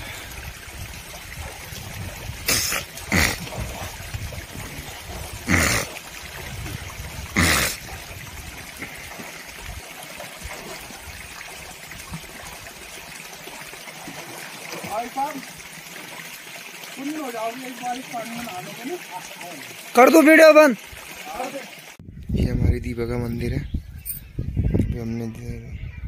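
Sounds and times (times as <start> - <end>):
loud water splashes: 0.0 - 22.0
stream trickling over rocks: 0.0 - 22.0.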